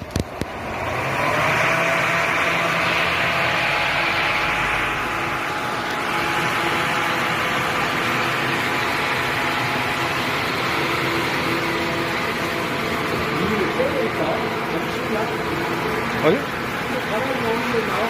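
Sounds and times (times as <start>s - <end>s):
electric blower fan running: 0.0s - 18.0s.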